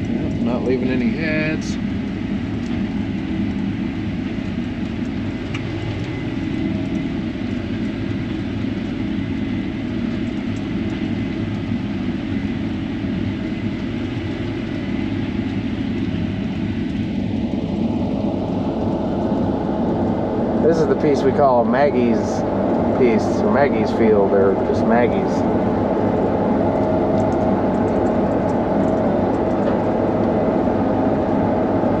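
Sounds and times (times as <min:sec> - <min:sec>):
combine harvester drone: 0:00.0 - 0:32.0.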